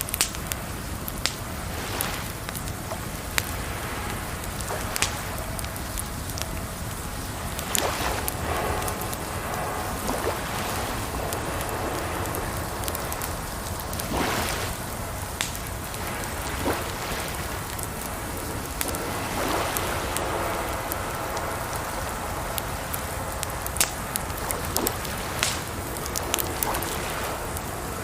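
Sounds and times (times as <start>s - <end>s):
campfire crackling and popping: 0.0s - 28.0s
rushing water: 0.0s - 28.0s.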